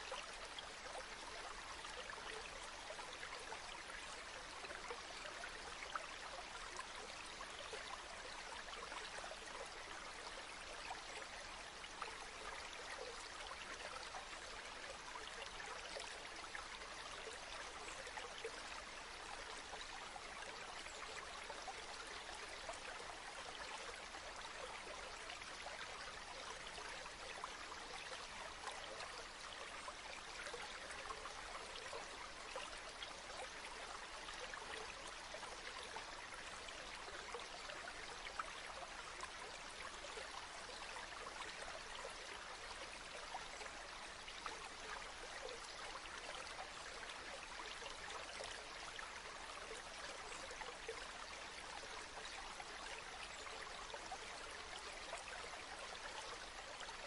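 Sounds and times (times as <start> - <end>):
river water trickling: 0.0 - 57.0.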